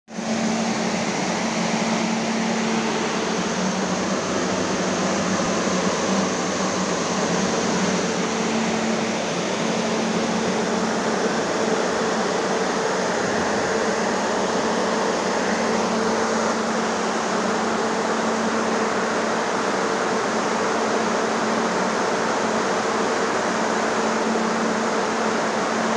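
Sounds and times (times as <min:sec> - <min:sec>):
fans rushing air: 0:00.1 - 0:25.9.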